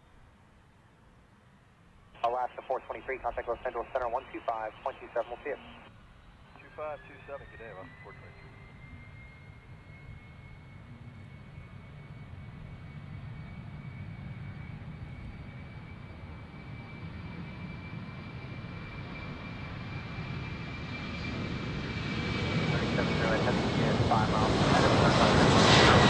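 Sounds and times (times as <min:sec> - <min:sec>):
jet airliner engines approaching: 0:01.0 - 0:26.0.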